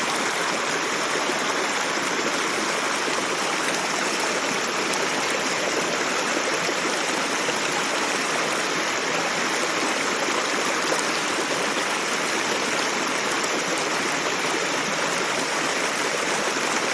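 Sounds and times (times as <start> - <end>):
water rushing over small waterfalls: 0.0 - 16.9.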